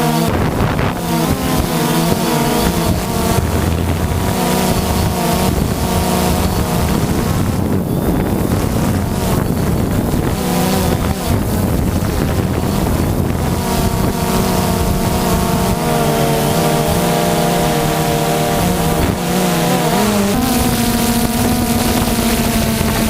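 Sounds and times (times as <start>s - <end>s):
boat motor running: 0.0s - 23.0s
wind buffeting microphone: 0.0s - 23.0s.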